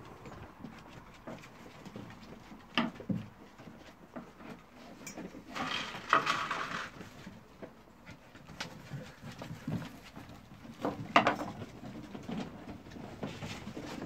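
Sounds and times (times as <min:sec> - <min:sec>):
paws scrabbling on wooden boards: 0:00.0 - 0:14.0.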